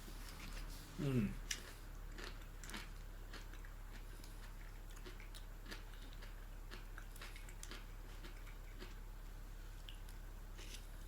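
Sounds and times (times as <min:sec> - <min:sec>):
steady low hum: 0:00.0 - 0:11.0
person chewing close to microphone: 0:00.1 - 0:11.0.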